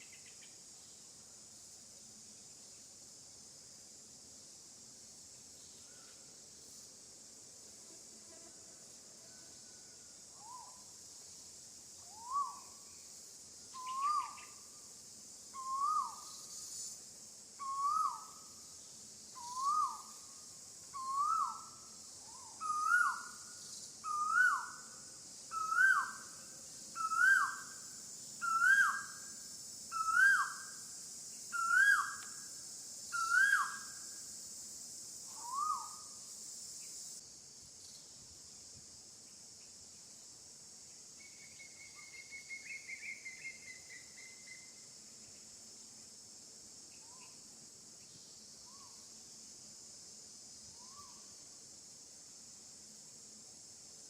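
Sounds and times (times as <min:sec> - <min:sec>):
high hiss of insects: 0:00.0 - 0:54.0.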